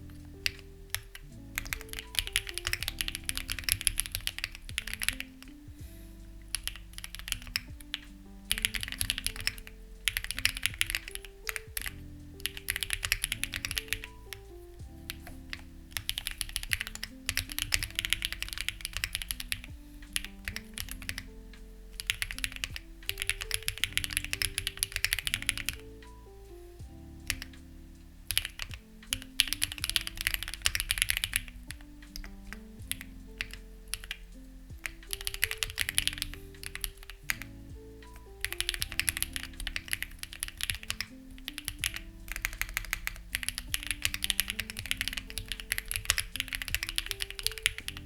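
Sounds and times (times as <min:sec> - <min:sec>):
mechanical keyboard typing: 0:00.0 - 0:05.6, 0:06.5 - 0:21.3, 0:21.9 - 0:26.2, 0:27.2 - 0:27.6, 0:28.2 - 0:48.0
soft background music: 0:00.0 - 0:48.0.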